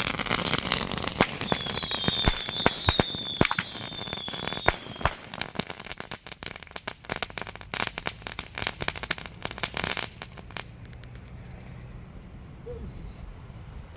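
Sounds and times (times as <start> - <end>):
firework crackling: 0.0 - 12.2.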